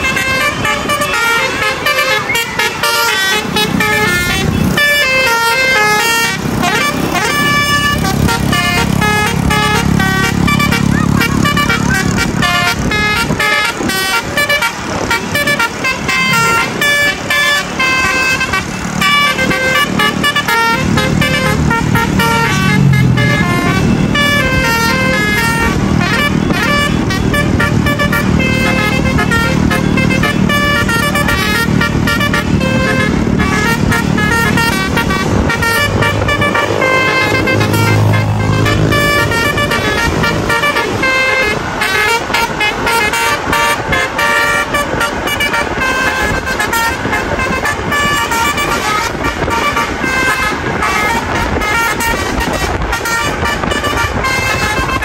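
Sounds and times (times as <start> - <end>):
bus engines running: 0.0 - 55.0
musical air horns melody: 0.0 - 55.0.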